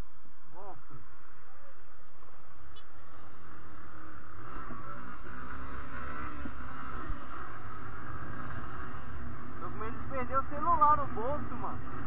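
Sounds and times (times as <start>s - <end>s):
motorcycle engine running: 0.8s - 12.0s.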